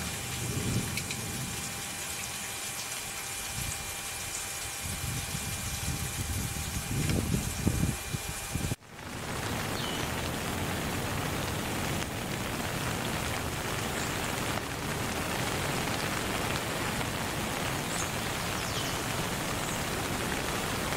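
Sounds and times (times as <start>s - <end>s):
steady rain: 0.0s - 20.9s.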